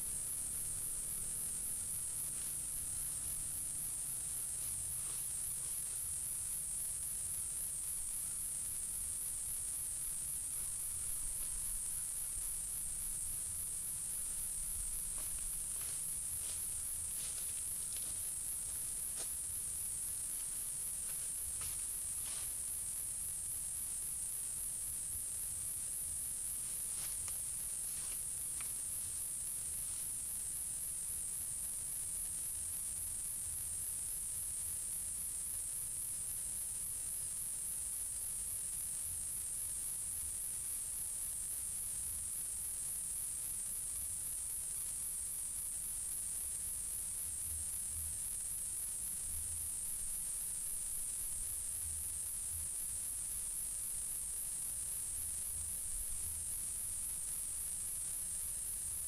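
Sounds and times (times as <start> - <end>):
insect chorus droning: 0.0 - 59.0.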